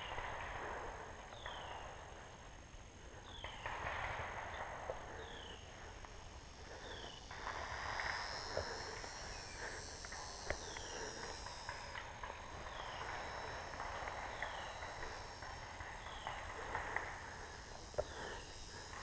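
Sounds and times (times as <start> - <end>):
high insect buzz: 0.0 - 19.0.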